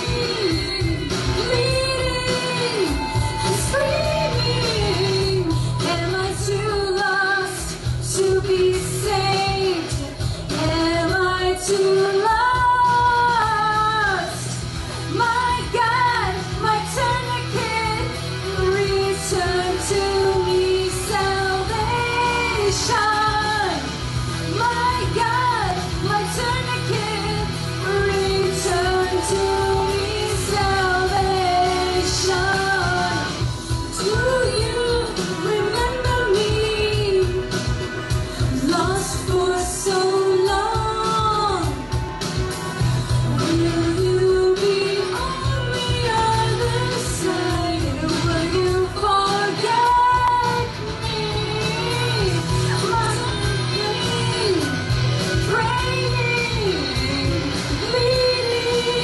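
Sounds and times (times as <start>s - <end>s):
backing track music: 0.0s - 59.0s
woman singing into microphone: 0.0s - 59.0s.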